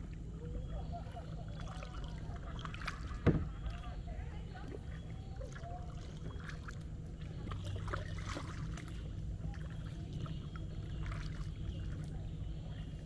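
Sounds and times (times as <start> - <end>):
paddle dipping into water: 0.0 - 13.0
steady low rumble: 0.0 - 13.0
water drips and small splashes: 0.0 - 13.0.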